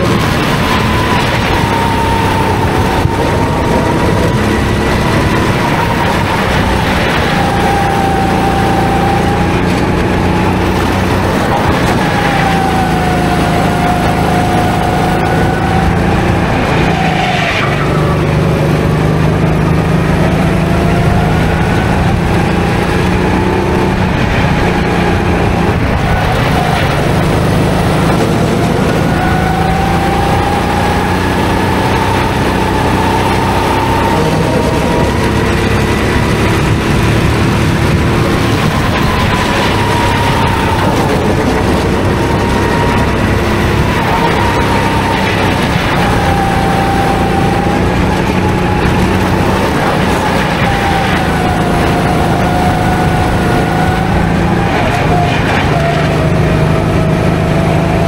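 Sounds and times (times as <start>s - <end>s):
go-kart engine: 0.0s - 58.0s.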